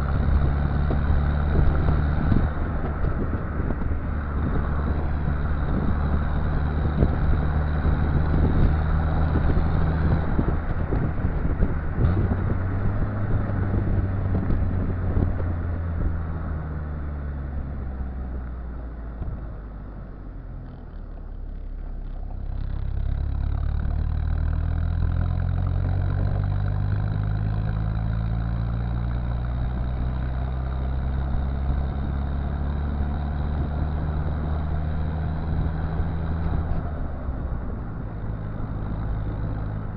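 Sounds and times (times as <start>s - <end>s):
diesel engine exhaust running: 0.0s - 39.9s.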